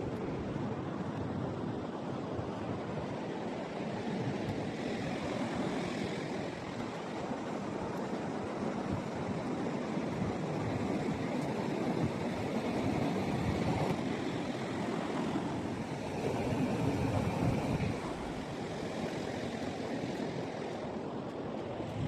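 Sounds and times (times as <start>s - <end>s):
ocean surf washing on beach: 0.0s - 22.0s.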